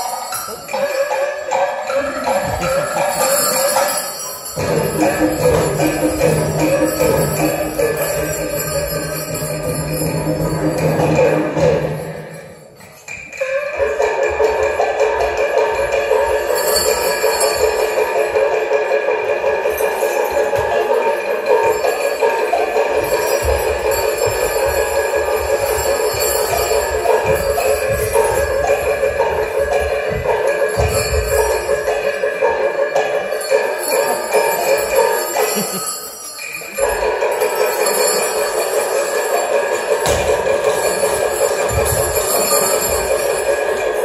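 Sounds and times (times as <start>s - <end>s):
clashing ringing cymbals: 0.0s - 44.0s
drum beating: 1.5s - 35.7s, 36.8s - 44.0s.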